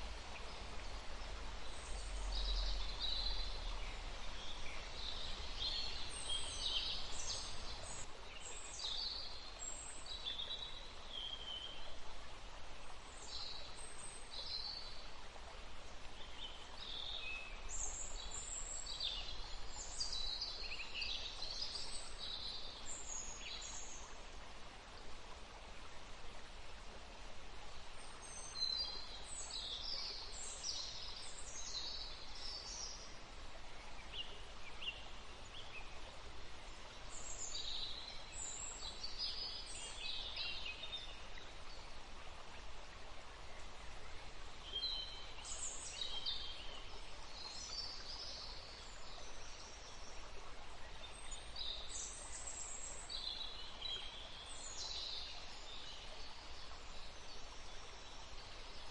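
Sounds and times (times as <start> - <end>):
flowing stream: 0.0 - 58.9
songbirds chirping: 0.0 - 58.9.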